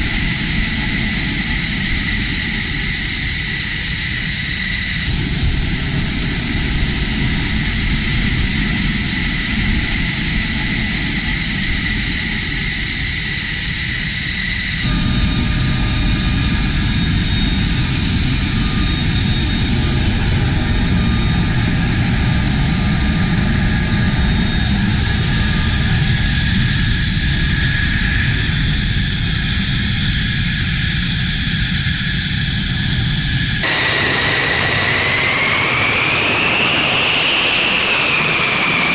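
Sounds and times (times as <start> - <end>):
jet engine rushing and whining: 0.0 - 38.9.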